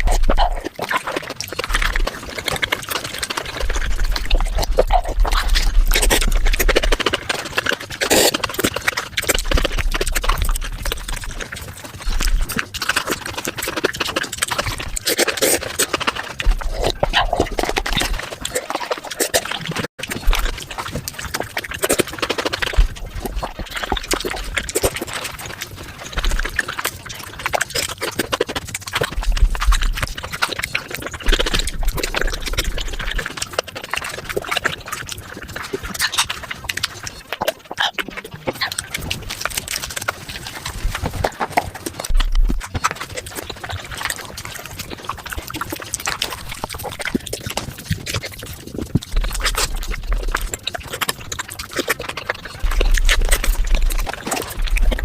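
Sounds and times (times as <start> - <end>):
rapid chewing and smacking: 0.0 - 55.0
slurping: 0.0 - 55.0.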